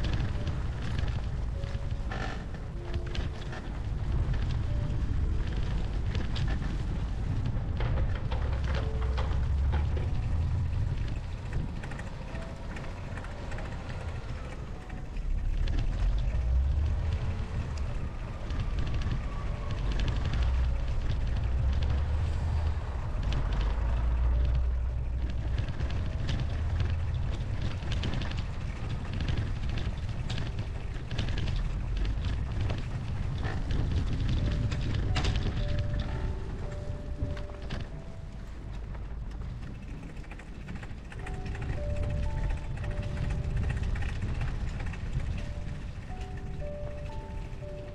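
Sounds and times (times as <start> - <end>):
wind rumbling on microphone: 0.0 - 47.9.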